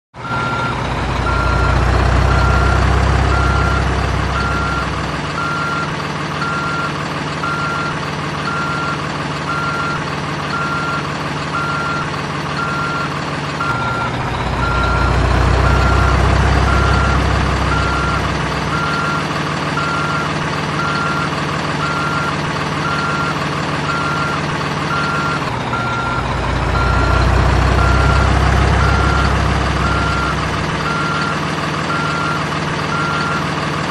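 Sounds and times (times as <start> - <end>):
diesel truck engine rumble: 0.2 - 33.9
truck reversing alarm beeping: 0.2 - 33.9.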